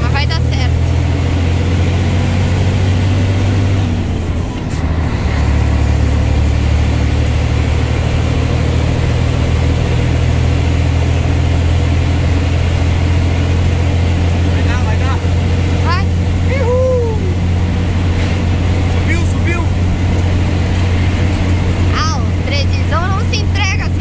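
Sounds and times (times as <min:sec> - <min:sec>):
diesel truck engine droning: 0:00.0 - 0:24.0
tyre and road noise: 0:00.0 - 0:24.0.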